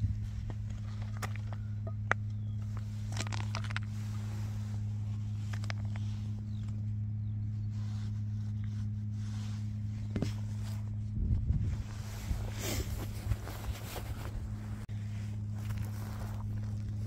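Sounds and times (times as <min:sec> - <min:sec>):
low machine hum: 0:00.0 - 0:17.0
rubble shifting underfoot: 0:00.0 - 0:17.0.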